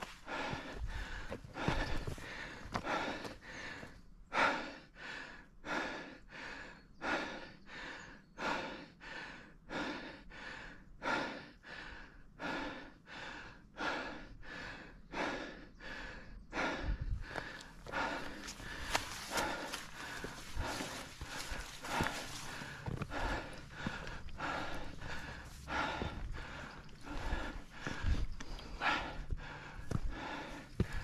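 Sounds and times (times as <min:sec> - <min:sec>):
person panting hard: 0:00.0 - 0:31.0.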